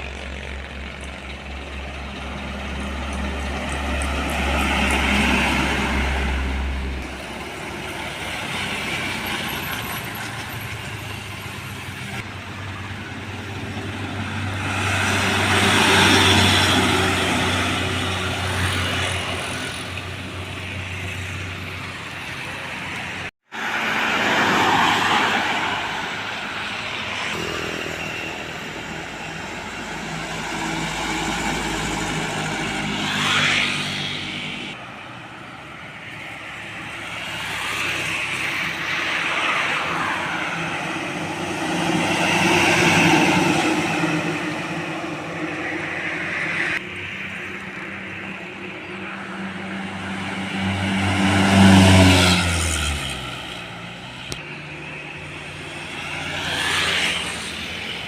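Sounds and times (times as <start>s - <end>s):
heavy trucks passing: 0.0s - 58.0s.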